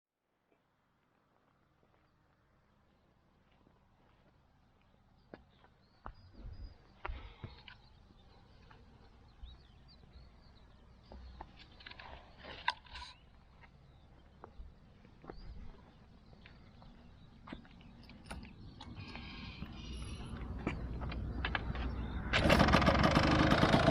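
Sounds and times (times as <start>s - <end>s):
small birds chirping: 2.0s - 22.3s.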